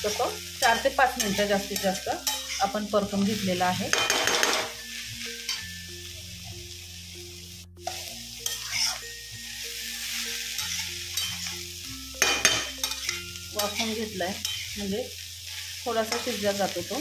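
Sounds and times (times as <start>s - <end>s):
steel spatula scraping a pan: 0.0s - 6.2s, 7.8s - 17.0s
vegetables sizzling in oil: 0.0s - 17.0s.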